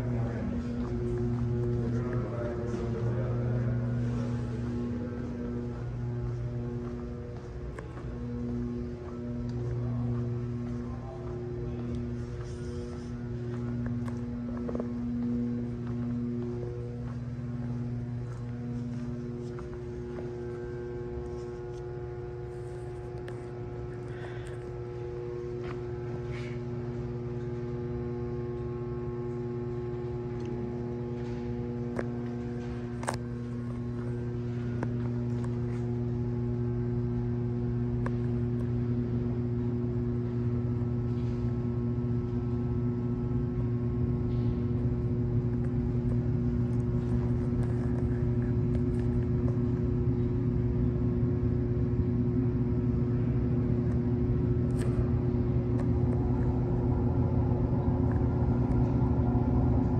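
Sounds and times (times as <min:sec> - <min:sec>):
mechanical hum with tones: 0:00.0 - 0:59.9.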